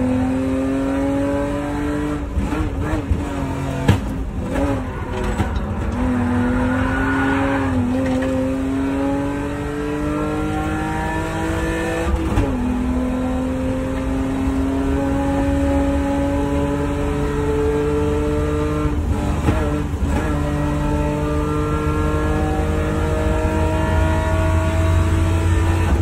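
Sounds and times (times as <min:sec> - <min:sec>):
car engine revving and shifting: 0:00.0 - 0:26.0.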